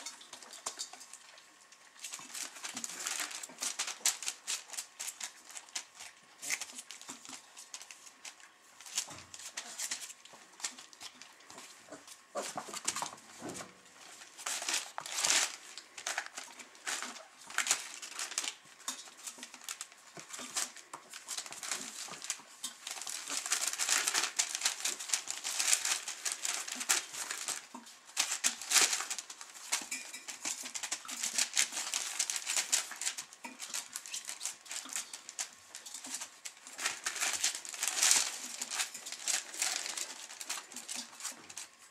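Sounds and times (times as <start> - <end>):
puppy claws scratching and scuffling: 0.0 - 41.9
paper rustling: 2.0 - 41.9
puppy noises: 2.0 - 41.9.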